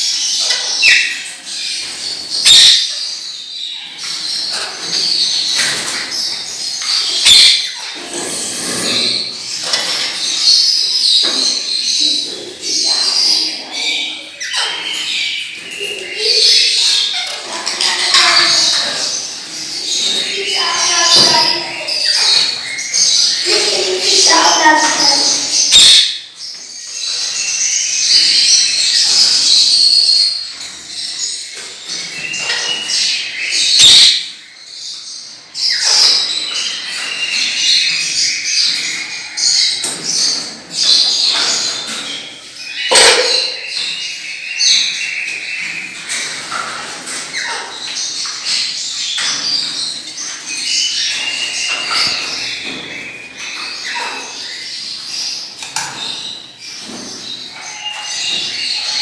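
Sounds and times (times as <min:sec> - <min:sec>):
parrots chirping and squawking: 0:00.0 - 0:59.0.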